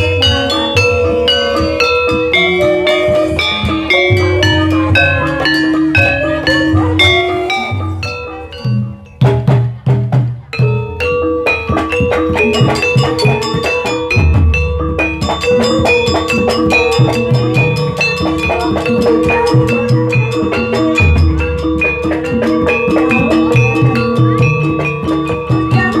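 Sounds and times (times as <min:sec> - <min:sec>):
held ringing tone: 0:00.0 - 0:09.2, 0:10.5 - 0:26.0
gamelan ensemble music: 0:00.0 - 0:26.0.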